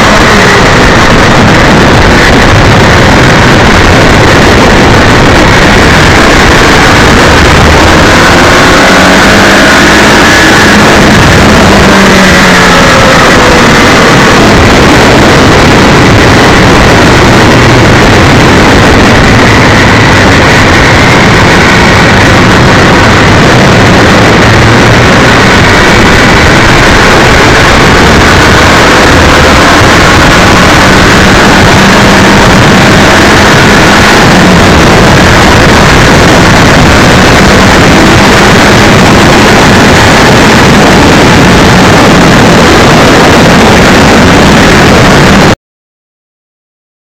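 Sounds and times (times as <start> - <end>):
distorted motorcycle engine: 0.0 - 45.6
riding wind rush: 0.0 - 45.6.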